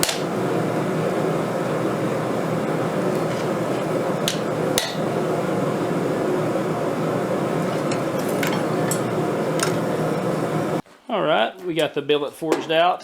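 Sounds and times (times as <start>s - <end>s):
forge rushing: 0.0s - 10.8s.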